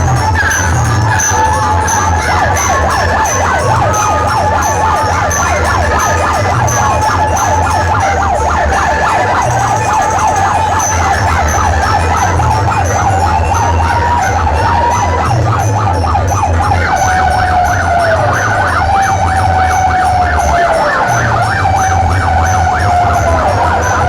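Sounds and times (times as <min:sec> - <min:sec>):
heavy bass beat: 0:00.0 - 0:24.0
warbling siren effect: 0:00.0 - 0:24.0.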